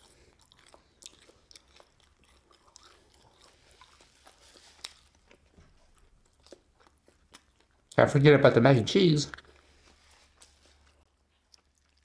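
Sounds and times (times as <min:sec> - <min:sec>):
person chewing food: 0:00.0 - 0:08.0, 0:09.4 - 0:12.0.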